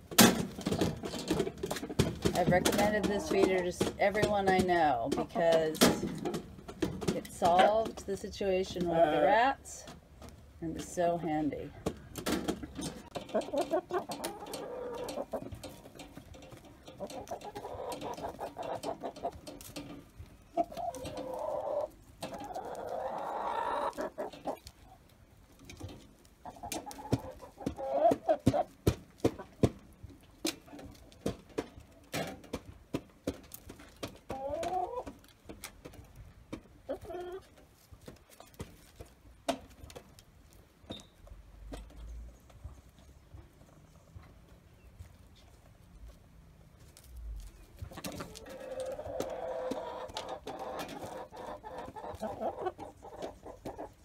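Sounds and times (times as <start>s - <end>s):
hens clucking: 0.0s - 45.8s, 46.9s - 54.0s.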